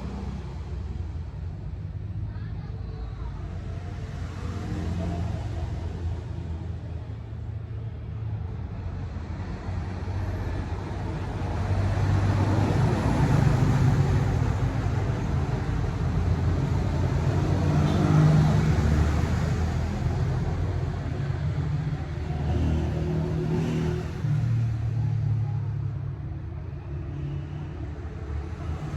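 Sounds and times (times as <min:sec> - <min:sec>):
wind and road noise: 0:00.0 - 0:28.9.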